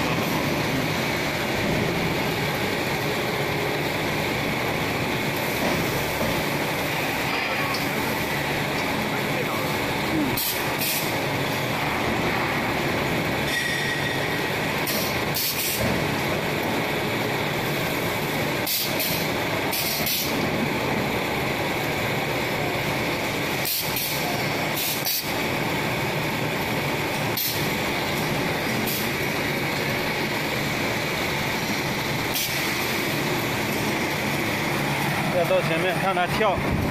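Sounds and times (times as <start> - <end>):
machine drone: 0.0 - 36.9.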